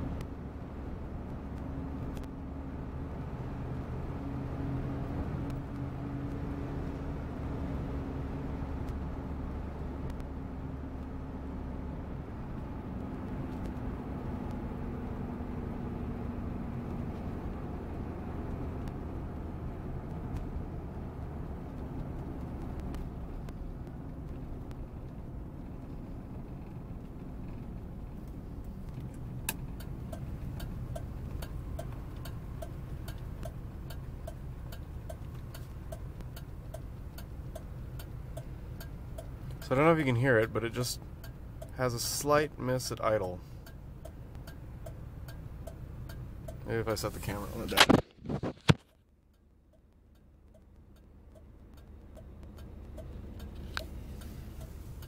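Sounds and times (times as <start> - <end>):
turn signal ticking: 0.0 - 47.9, 48.9 - 55.0
car engine and tyres rumbling: 0.0 - 55.0.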